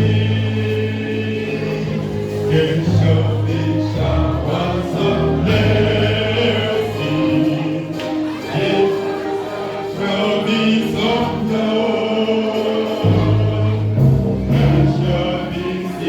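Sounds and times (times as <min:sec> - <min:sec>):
choir singing gospel music: 0:00.0 - 0:16.0.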